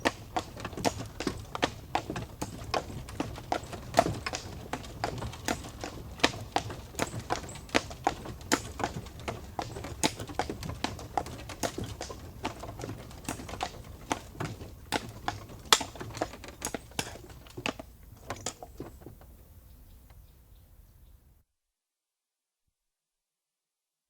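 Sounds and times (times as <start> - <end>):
horse hooves clip-clopping: 0.0 - 19.5.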